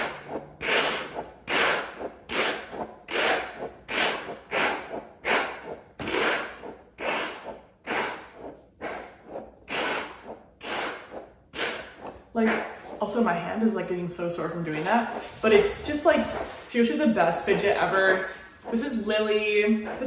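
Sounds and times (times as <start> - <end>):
stress ball squishing: 0.0 - 20.0.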